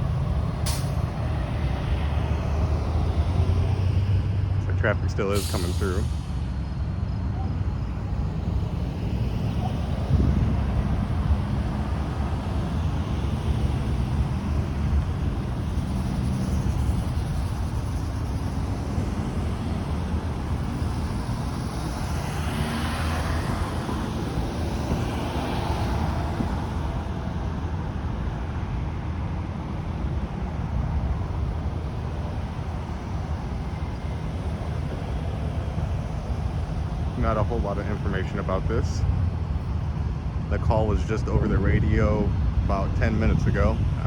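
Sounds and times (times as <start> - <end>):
road traffic passing: 0.0 - 44.0
wind rumbling on microphone: 0.0 - 44.0.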